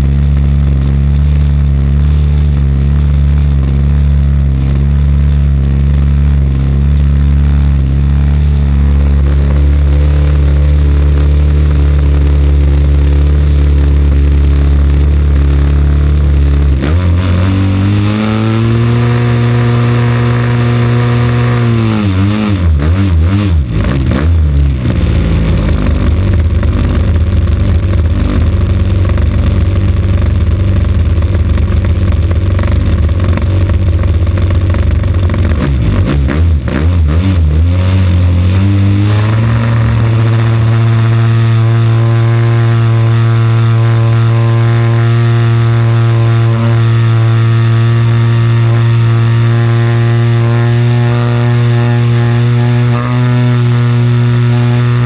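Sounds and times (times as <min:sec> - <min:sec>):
model plane engine revving: 0:00.0 - 0:24.1, 0:31.8 - 0:55.0.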